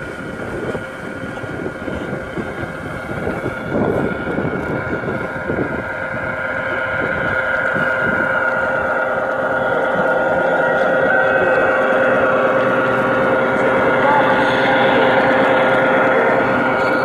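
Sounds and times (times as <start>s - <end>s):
model locomotive mechanical hum: 0.0s - 17.0s.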